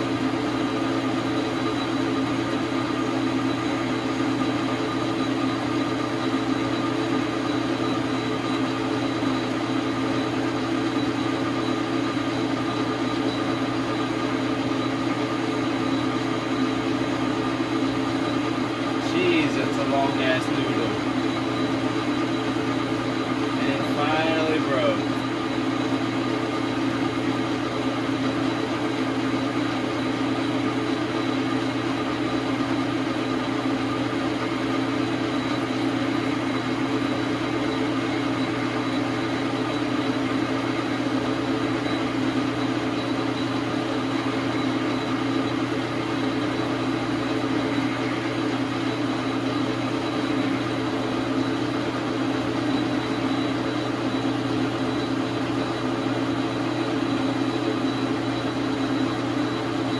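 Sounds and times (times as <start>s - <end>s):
metal lathe motor and gear hum: 0.0s - 59.9s.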